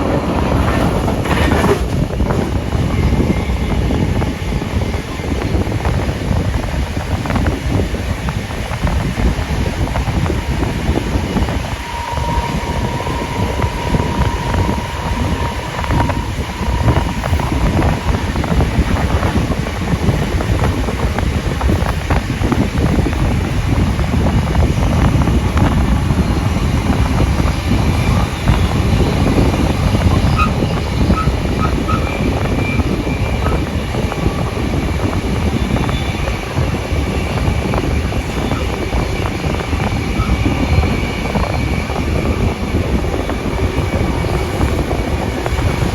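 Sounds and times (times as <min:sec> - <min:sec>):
train running noise: 0:00.0 - 0:45.9.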